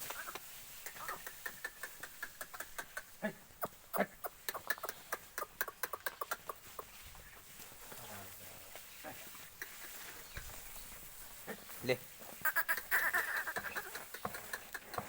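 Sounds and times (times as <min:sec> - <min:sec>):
goats clicking and crackling: 0:00.0 - 0:15.0.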